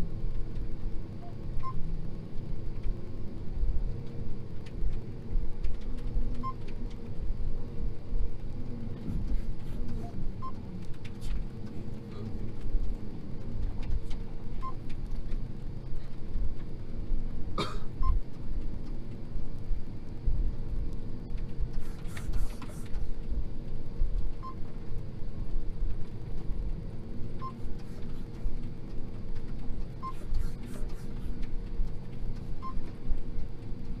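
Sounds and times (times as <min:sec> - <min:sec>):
combine harvester cab drone: 0:00.0 - 0:34.0.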